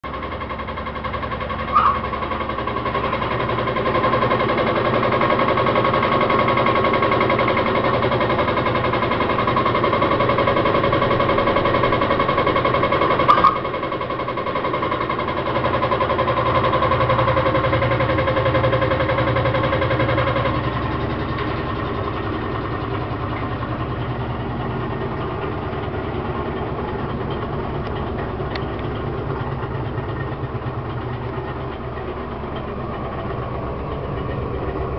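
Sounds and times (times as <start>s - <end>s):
washing machine hum and whine: 0.0s - 34.9s.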